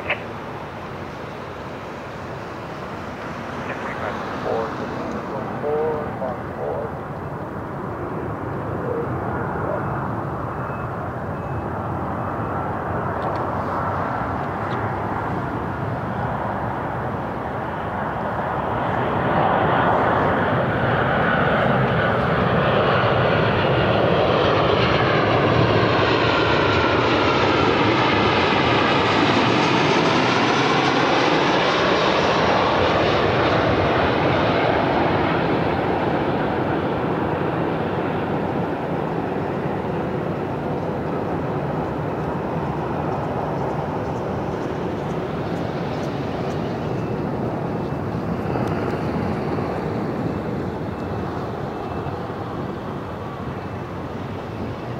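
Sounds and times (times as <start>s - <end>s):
airplane engine passing by: 0.0s - 54.9s.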